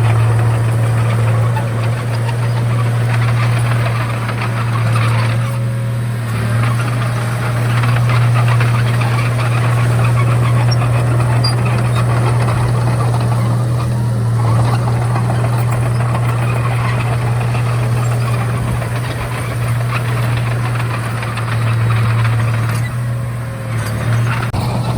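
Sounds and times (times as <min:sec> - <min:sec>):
bulldozer diesel engine rattling: 0:00.0 - 0:24.9.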